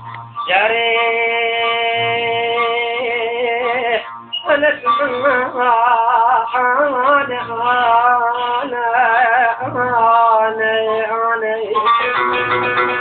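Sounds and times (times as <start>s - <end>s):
man singing melismatic line: 0.4s - 13.0s.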